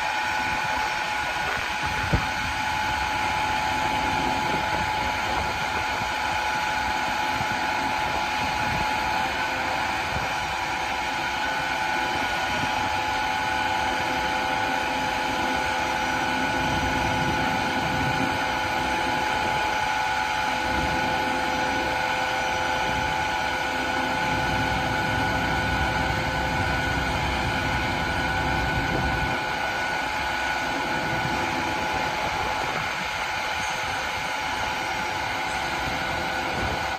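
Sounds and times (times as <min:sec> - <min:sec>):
diesel engine running: 0:00.0 - 0:36.9
hydraulic pump whine: 0:00.0 - 0:36.9.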